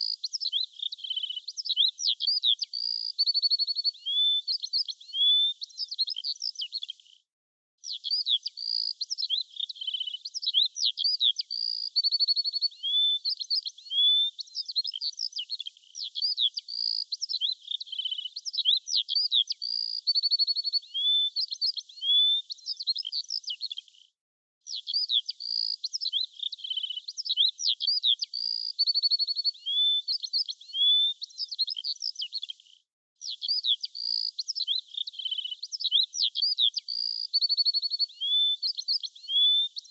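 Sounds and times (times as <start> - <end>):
songbirds chirping and trilling: 0.0 - 7.2, 7.8 - 39.9.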